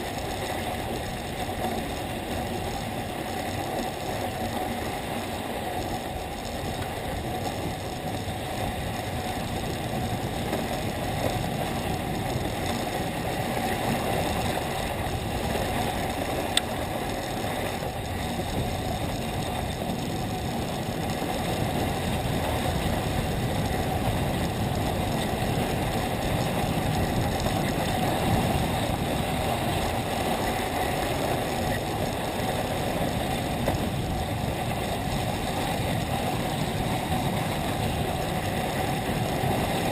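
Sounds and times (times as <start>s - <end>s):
skis sliding over packed snow: 0.0s - 39.9s.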